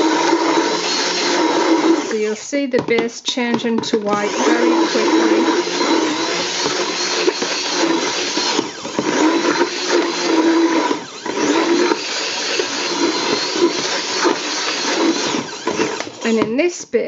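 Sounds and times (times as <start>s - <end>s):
stick blender running: 0.0s - 16.6s.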